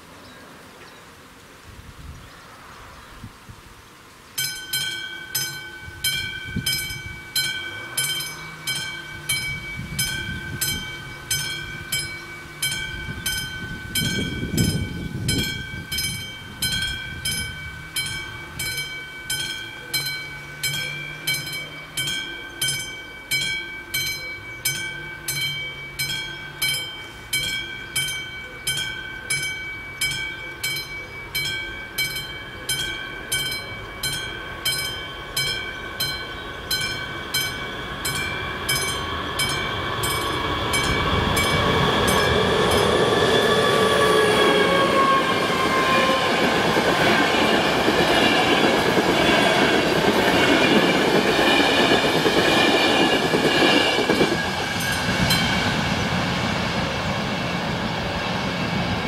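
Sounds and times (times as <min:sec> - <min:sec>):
diesel locomotive engine and wheels: 0:00.0 - 0:59.0
train approaching: 0:00.0 - 0:59.0
level-crossing bell ringing: 0:04.4 - 0:56.1.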